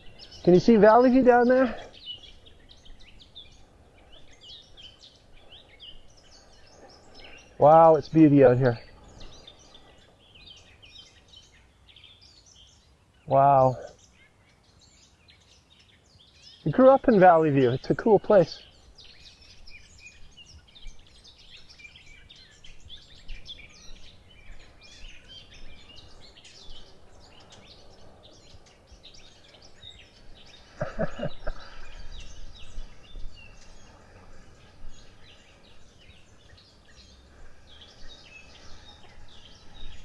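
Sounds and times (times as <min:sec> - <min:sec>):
background hiss: 0:00.0 - 0:40.0
small birds chirping: 0:00.0 - 0:40.0.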